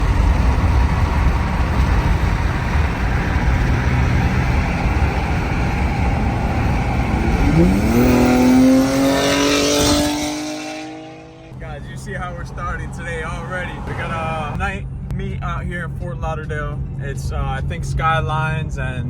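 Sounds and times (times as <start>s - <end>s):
car engine and exhaust roaring: 0.0s - 19.0s.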